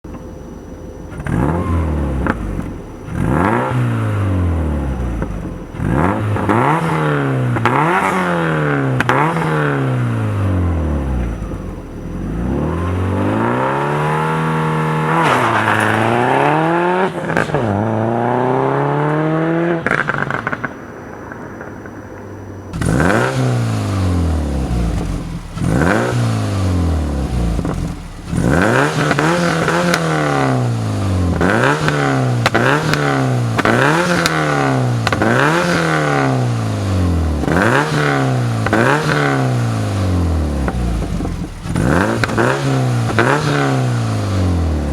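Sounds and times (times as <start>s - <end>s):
car engine idling: 0.3s - 17.5s, 20.7s - 44.9s
car engine revving: 1.1s - 22.0s, 22.6s - 44.9s.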